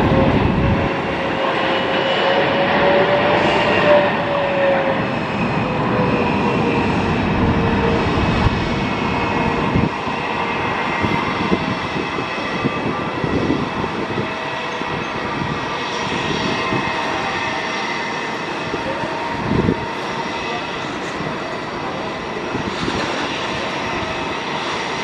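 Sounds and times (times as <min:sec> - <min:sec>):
jet engines whining: 0:00.0 - 0:25.0.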